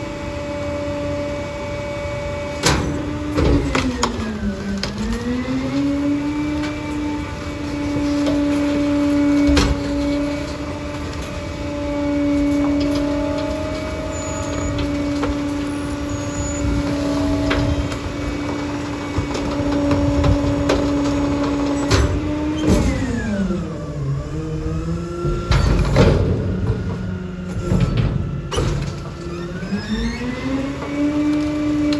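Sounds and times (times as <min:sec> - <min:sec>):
garbage truck idling: 0:00.0 - 0:31.9.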